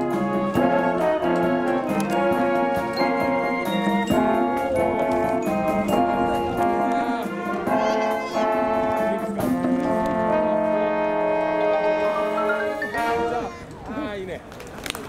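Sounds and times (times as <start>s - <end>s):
wind band playing chords: 0.0s - 13.7s.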